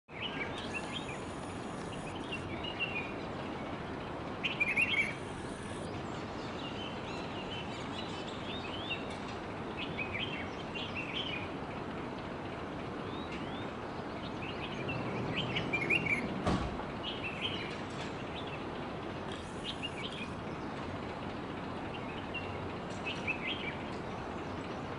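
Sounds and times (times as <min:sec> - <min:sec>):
birds chirping: 0:00.1 - 0:11.6, 0:13.0 - 0:16.4, 0:17.0 - 0:24.9.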